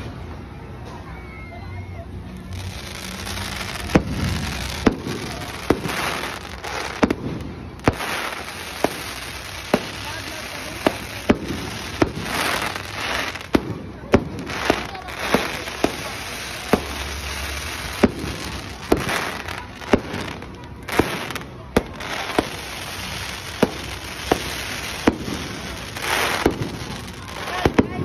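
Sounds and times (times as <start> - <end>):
fireworks crackling and fizzing: 0.0 - 28.0
fireworks bangs: 2.3 - 28.0.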